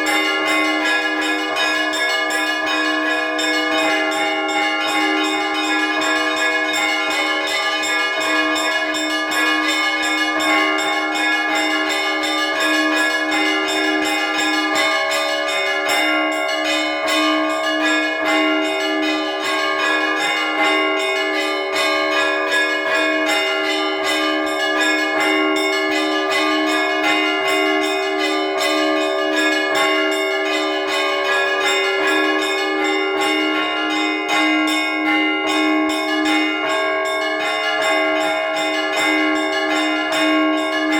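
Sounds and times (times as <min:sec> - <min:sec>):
small church bells chiming: 0:00.0 - 0:40.9.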